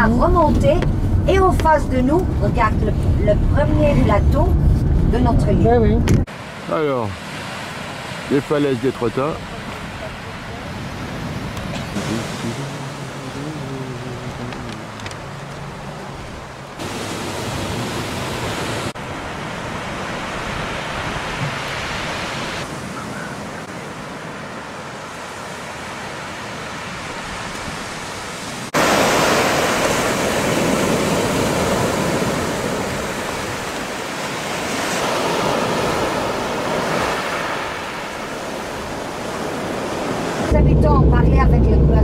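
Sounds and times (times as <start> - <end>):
sea surf breaking on beach: 6.2 - 41.2.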